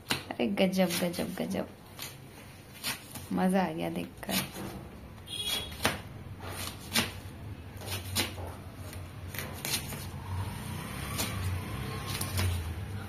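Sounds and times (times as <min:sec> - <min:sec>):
knife slicing cabbage on board: 0:00.0 - 0:03.3, 0:04.2 - 0:10.2, 0:10.8 - 0:12.8.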